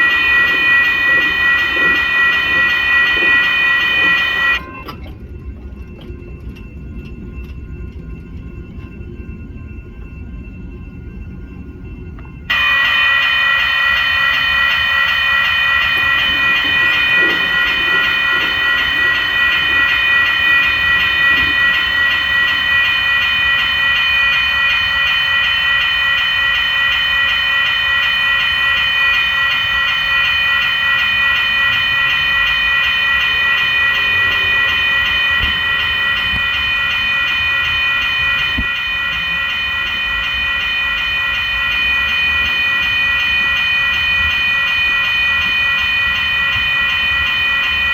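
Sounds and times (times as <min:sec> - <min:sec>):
high-pitched ringing tone: 0:00.0 - 0:47.9
train running past: 0:00.0 - 0:47.9.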